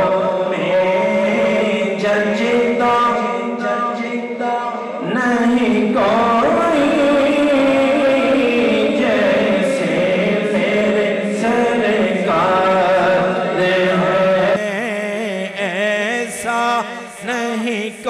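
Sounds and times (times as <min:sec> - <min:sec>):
held chord of voices: 0:00.0 - 0:18.0
man singing into microphone: 0:00.0 - 0:18.0.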